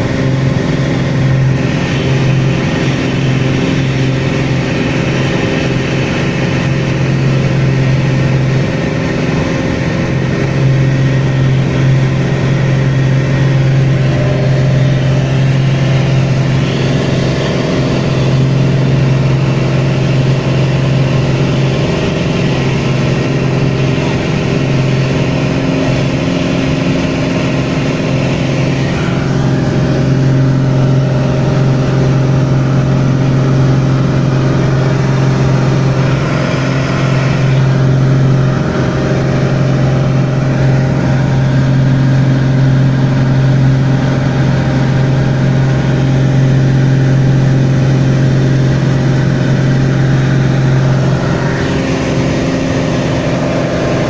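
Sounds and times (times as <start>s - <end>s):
light aircraft engine droning: 0.0s - 54.0s.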